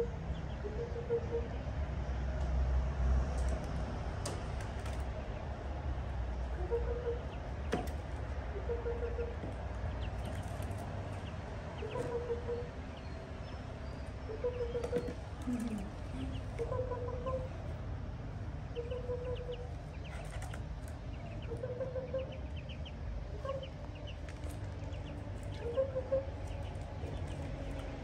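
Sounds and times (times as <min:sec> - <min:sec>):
ducklings peeping: 0:00.0 - 0:01.8, 0:04.8 - 0:28.0.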